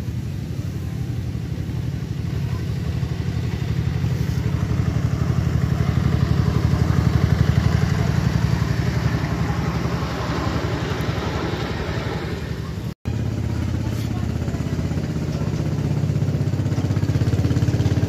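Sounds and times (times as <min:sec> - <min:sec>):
small engine pulsing steadily: 0:00.0 - 0:18.0.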